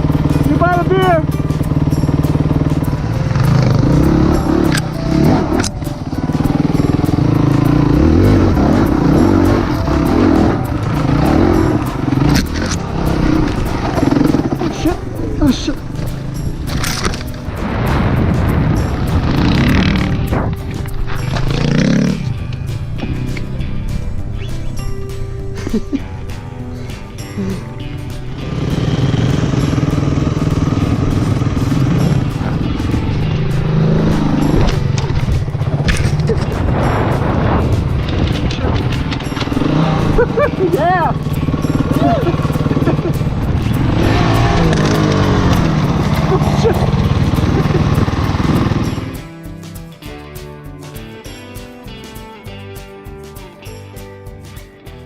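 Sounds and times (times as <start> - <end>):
dirt bike engine revving: 0.0 - 24.9, 26.9 - 49.4
music: 0.0 - 55.0.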